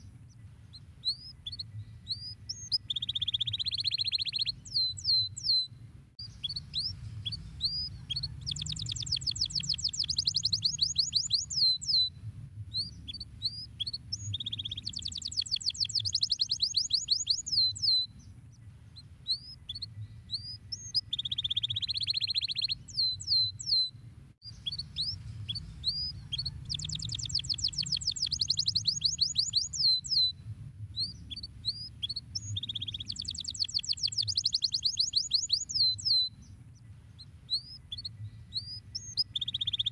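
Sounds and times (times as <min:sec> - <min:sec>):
low steady hum: 0:00.0 - 0:33.7
canary singing trills: 0:00.0 - 0:39.9.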